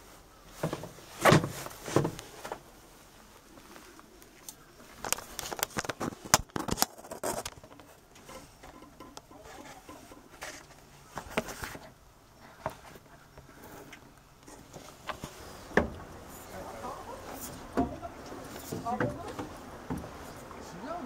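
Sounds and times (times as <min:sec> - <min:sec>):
clunks and rustling in boat bilge: 0:00.5 - 0:02.8, 0:05.0 - 0:20.6.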